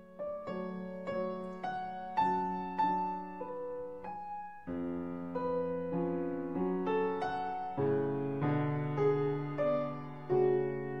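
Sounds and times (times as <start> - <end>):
gentle piano piece: 0.0 - 11.0.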